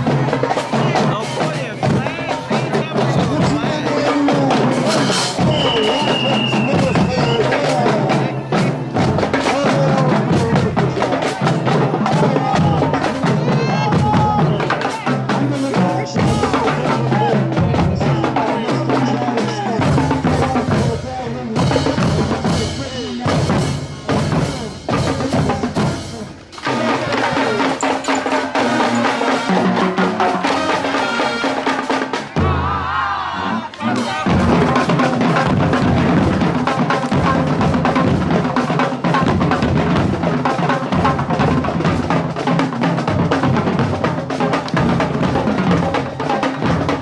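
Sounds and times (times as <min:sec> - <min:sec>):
drums beating: 0:00.0 - 0:47.0
marching band playing: 0:00.0 - 0:47.0.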